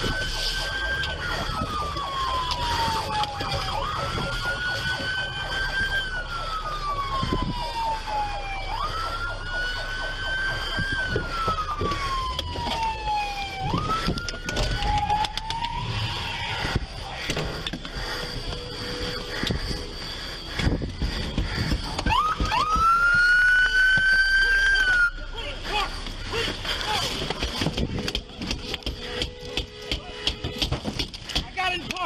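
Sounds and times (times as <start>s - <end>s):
police siren wailing: 0.0s - 32.0s.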